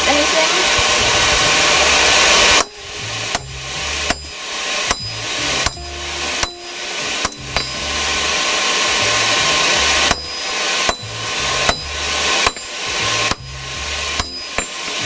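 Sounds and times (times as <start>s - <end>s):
hammer on hot metal on anvil: 2.2s - 15.0s.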